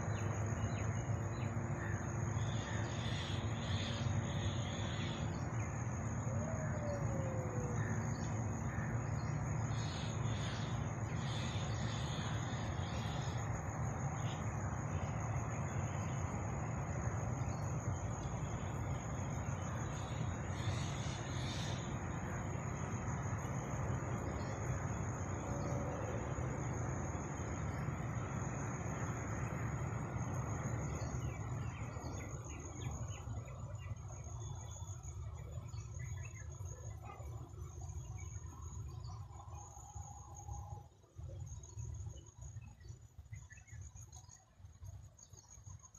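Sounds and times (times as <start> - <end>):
low background rumble: 0.0 - 45.6
insects trilling: 0.0 - 45.9.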